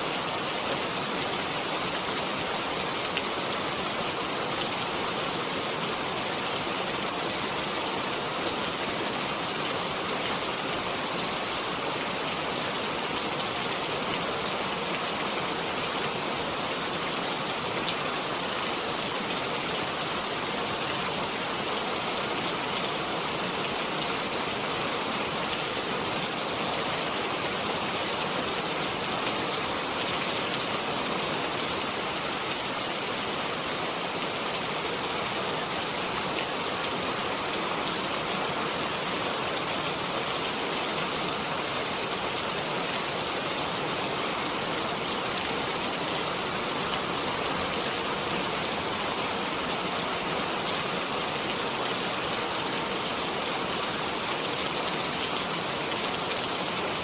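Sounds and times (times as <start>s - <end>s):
rain hissing with drop patter: 0.0s - 57.0s.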